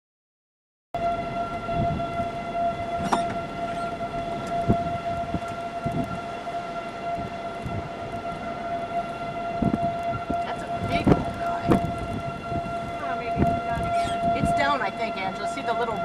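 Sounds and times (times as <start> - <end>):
distant warning siren: 1.0 - 16.0
low rumbling noise: 1.0 - 16.0.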